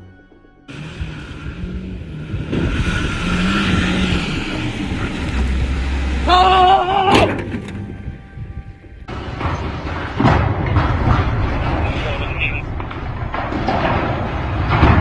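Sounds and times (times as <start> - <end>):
vehicle running on road: 0.7 - 15.0.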